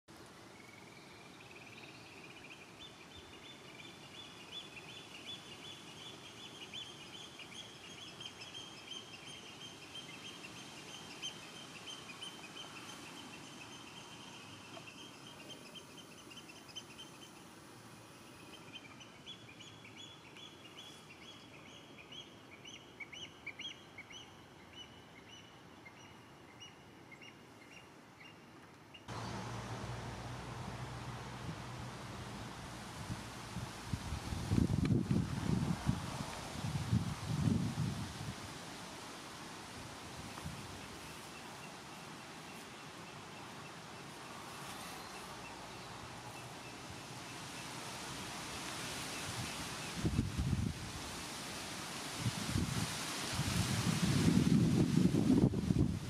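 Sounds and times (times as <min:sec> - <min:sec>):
steady background hiss: 0:00.1 - 0:56.0.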